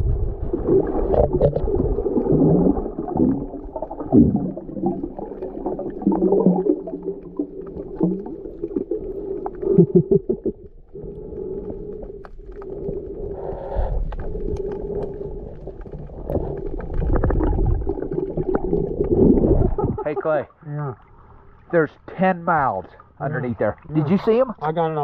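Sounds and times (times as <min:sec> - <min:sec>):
muffled underwater rumbling: 0:00.0 - 0:21.8.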